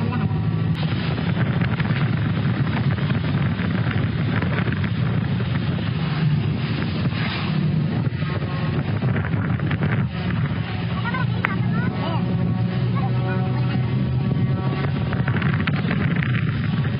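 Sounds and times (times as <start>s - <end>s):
car engine and road noise: 0.0s - 16.9s
wind buffeting microphone: 0.0s - 16.9s.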